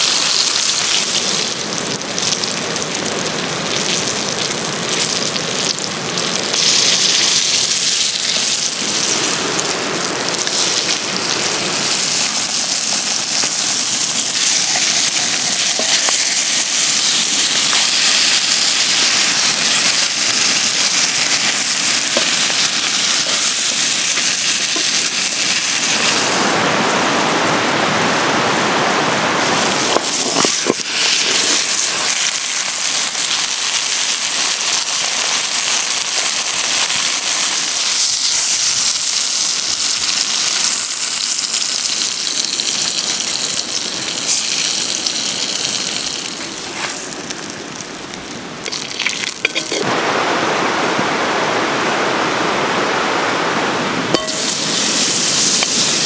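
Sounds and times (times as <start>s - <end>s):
fish frying in hot oil: 0.0s - 26.4s, 29.4s - 49.9s, 54.1s - 56.0s.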